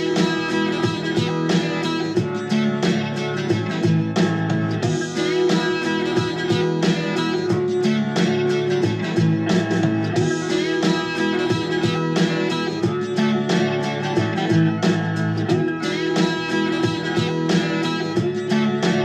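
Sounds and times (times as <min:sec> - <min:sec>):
plucked and strummed guitar: 0:00.0 - 0:19.0
steady bass line: 0:00.0 - 0:19.0.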